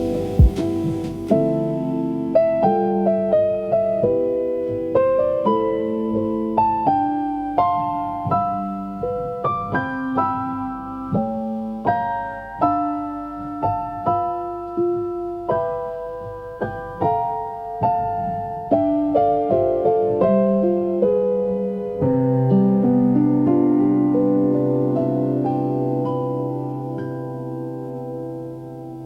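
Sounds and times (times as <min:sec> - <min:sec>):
electric piano playing lofi jazz: 0:00.0 - 0:29.0.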